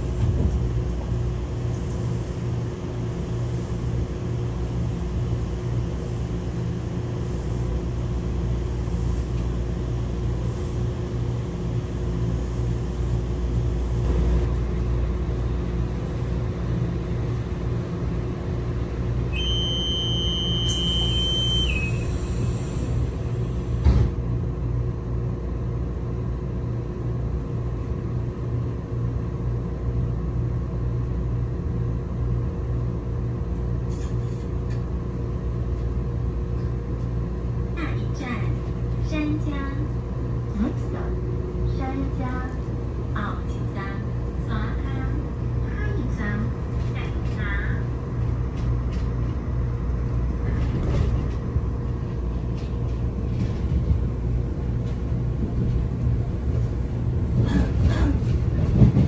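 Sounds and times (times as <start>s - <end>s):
idling rail vehicle rumble: 0.0s - 59.0s.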